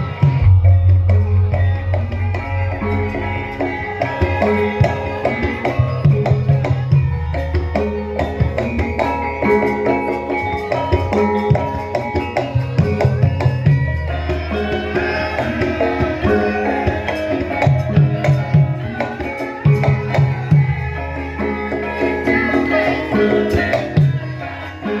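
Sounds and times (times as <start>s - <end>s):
hand drum patterns: 0.0s - 25.0s
metallophone notes: 0.0s - 25.0s.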